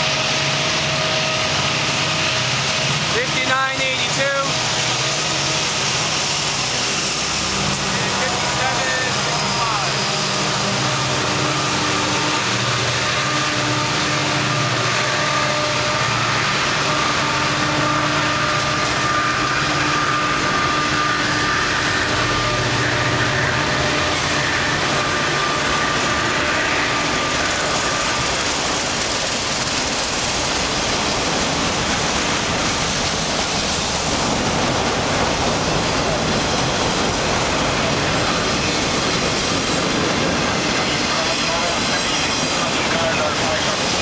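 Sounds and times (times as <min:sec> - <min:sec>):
steady whining tones: 0:00.0 - 0:44.0
steel wheels rushing on rail: 0:00.0 - 0:44.0.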